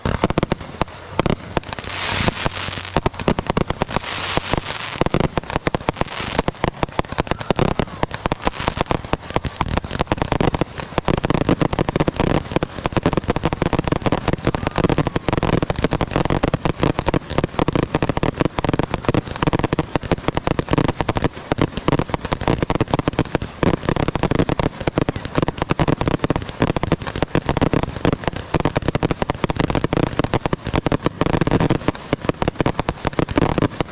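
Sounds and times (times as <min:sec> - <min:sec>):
fireworks bangs: 0:00.0 - 0:33.9
hissing crackling fireworks: 0:00.0 - 0:33.9.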